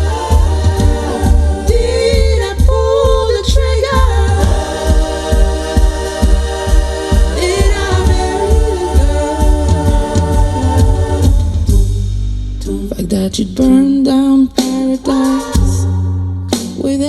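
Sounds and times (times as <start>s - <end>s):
choir-like vocal harmonies: 0.0s - 17.0s
deep bass beat: 0.0s - 17.0s.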